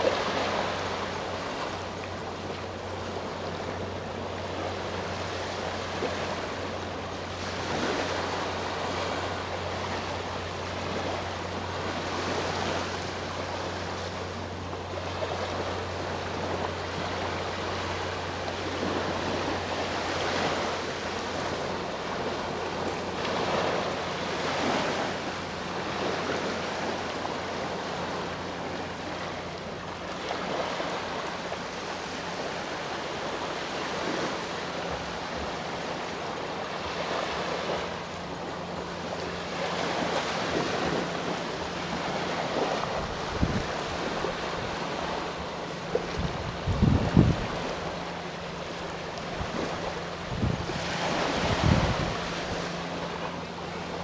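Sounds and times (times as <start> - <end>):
sea waves washing onto shore: 0.0 - 54.0.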